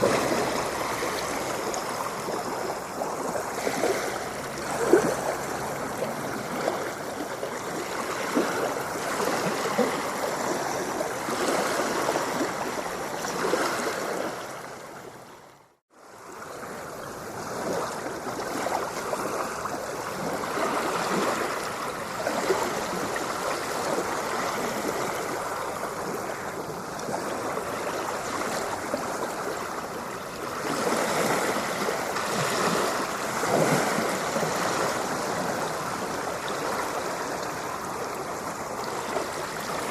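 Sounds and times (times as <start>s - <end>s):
ocean water washing and splashing: 0.0s - 39.9s.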